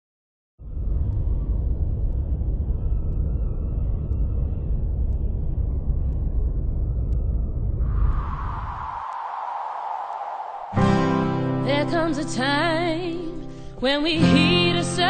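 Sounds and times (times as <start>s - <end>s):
low rumble: 0.6s - 13.7s.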